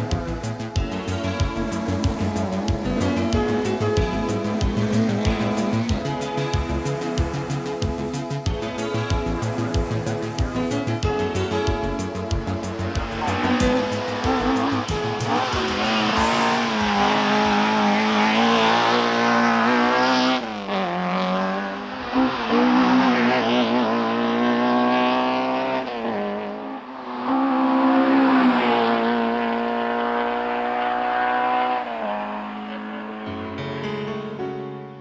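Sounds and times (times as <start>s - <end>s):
rally car engine revving: 0.0s - 33.6s.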